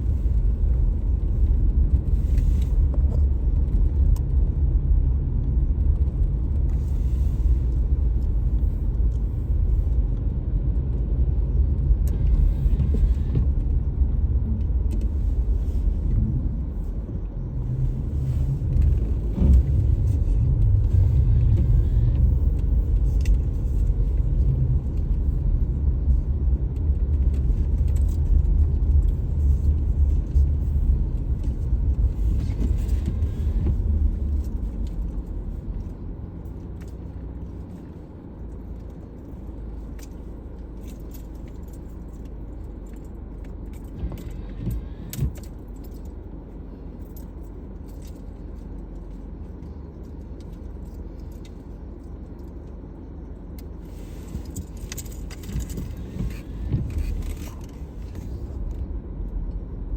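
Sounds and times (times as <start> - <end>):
car driving on snowy road: 0.0 - 59.9.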